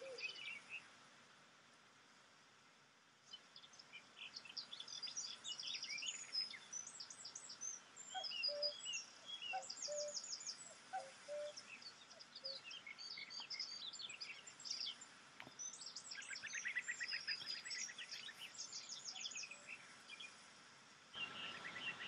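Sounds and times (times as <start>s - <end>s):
birds singing: 0.0s - 0.9s, 3.3s - 20.4s, 21.2s - 22.0s.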